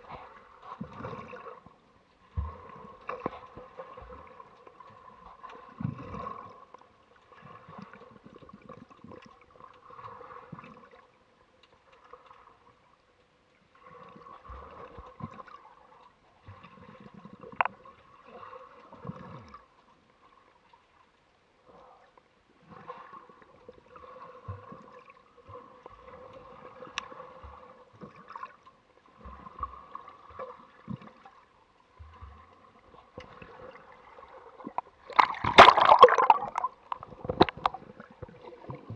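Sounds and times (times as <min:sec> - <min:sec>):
underwater gurgling and sloshing: 0:00.0 - 0:38.9.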